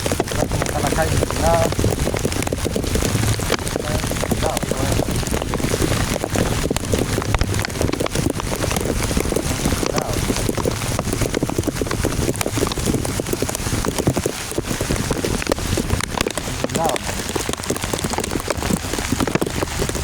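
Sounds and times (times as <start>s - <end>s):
heavy rain on hard surface: 0.0s - 20.0s.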